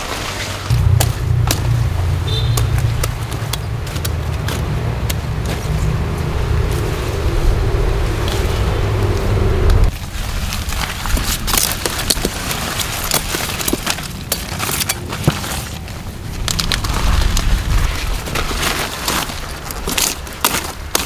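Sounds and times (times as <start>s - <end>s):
plant leaves crackling and snapping: 0.0s - 21.0s.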